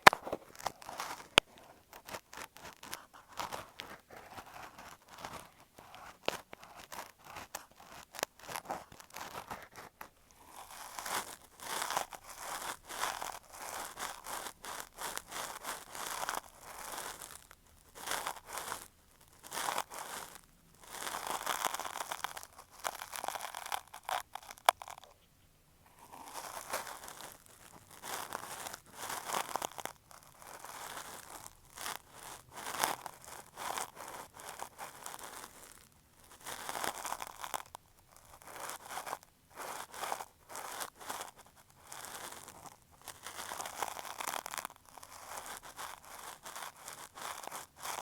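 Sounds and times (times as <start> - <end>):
cotton swab scratching microphone: 0.0 - 35.6, 36.2 - 48.0.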